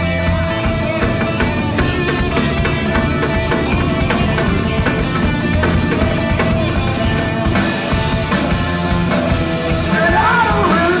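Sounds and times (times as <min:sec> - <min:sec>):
electric guitar: 0:00.0 - 0:11.0
live rock band playing: 0:00.0 - 0:11.0.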